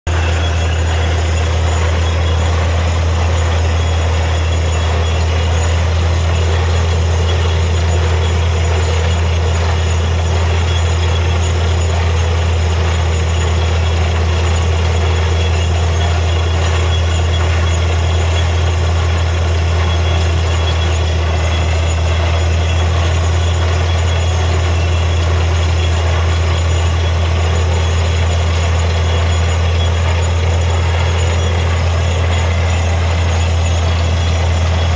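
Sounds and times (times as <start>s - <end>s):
drilling rig engine drone: 0.0s - 34.9s.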